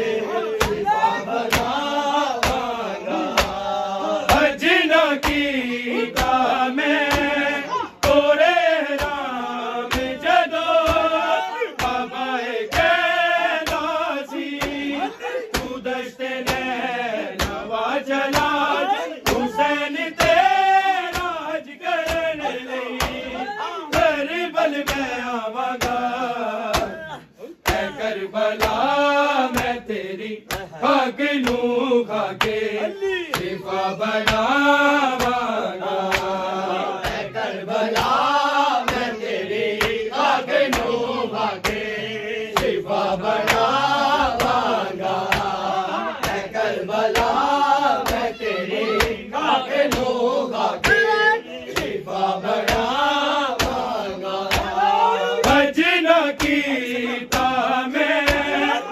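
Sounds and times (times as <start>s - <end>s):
men chanting in unison: 0.0s - 58.9s
rhythmic chest-beating: 0.0s - 58.9s.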